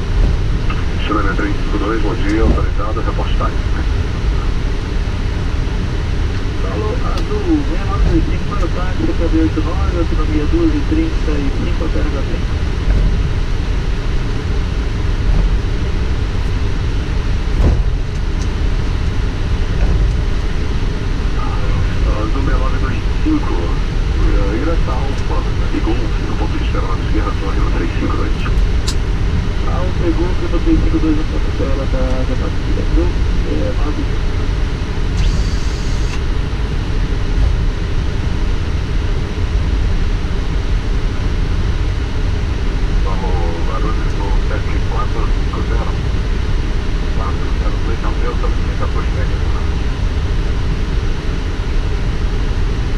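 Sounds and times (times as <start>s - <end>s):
low cockpit rumble: 0.0s - 52.9s.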